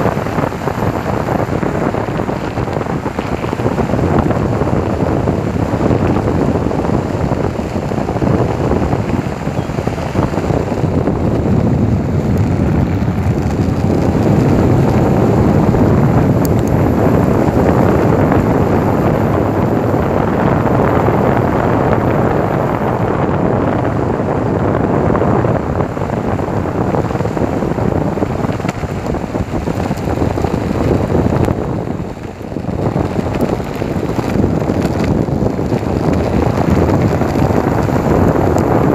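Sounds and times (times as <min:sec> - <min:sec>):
skateboard wheels rumbling: 0:00.0 - 0:38.9
wind rush on microphone: 0:00.0 - 0:38.9.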